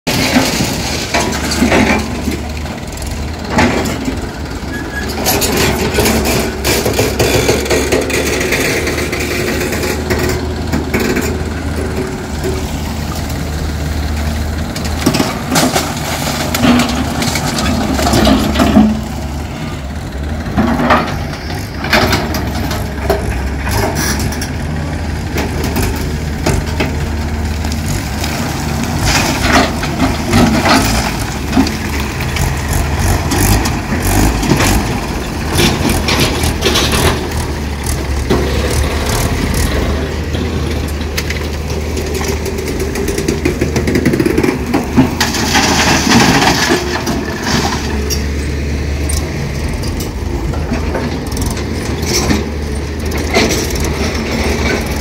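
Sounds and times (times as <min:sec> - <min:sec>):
diesel excavator engine running: 0:00.0 - 0:55.0
rock and soil clattering: 0:00.1 - 0:04.3, 0:05.1 - 0:19.5, 0:20.4 - 0:55.0.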